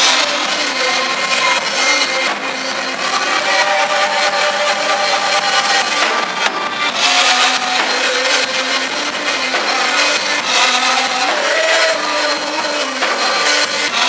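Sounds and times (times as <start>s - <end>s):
band playing worship music: 0.0s - 14.0s
man singing into a microphone: 0.0s - 14.0s.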